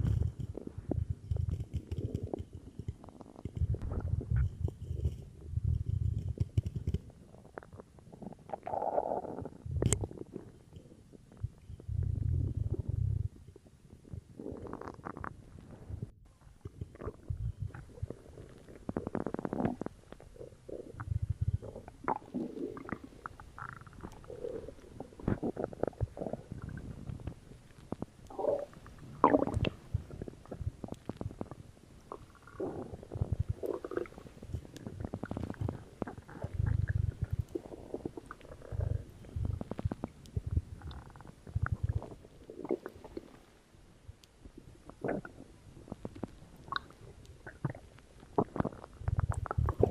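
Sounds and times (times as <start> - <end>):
stomach gurgling and rumbling: 0.0 - 49.9.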